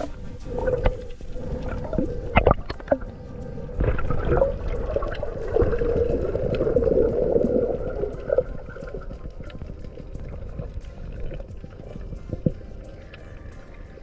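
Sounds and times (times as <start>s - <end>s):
water gurgling and bubbling: 0.0s - 14.0s.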